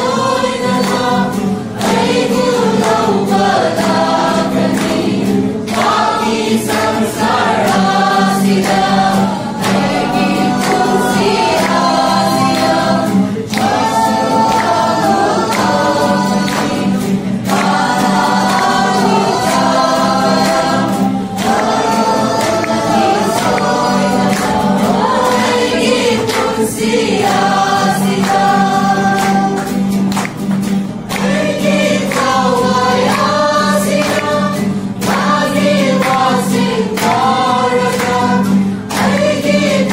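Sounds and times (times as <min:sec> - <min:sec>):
group singing a christmas song: 0:00.0 - 0:39.9
strummed acoustic guitar: 0:00.0 - 0:39.9.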